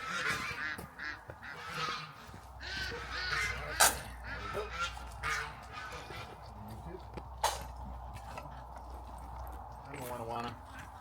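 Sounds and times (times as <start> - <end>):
farm animals calling: 0.0 - 11.0.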